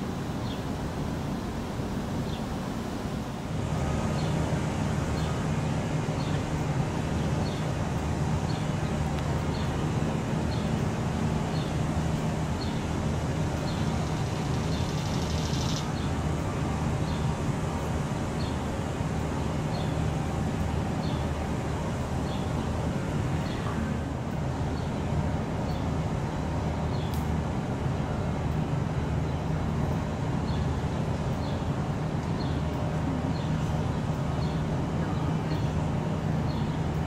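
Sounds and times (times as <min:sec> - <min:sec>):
low mechanical rumble with hum: 0:00.0 - 0:37.0.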